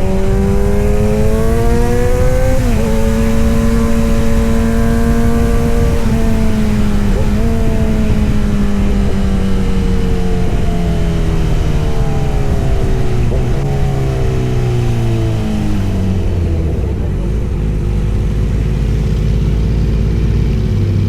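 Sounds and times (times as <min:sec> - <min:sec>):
motorcycle engine and exhaust running: 0:00.0 - 0:21.0.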